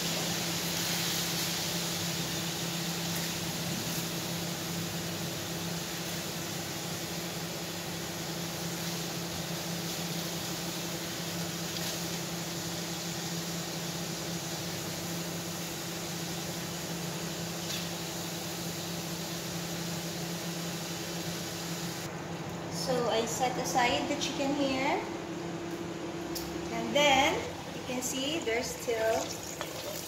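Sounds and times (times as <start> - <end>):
range hood fan humming: 0.0 - 30.0.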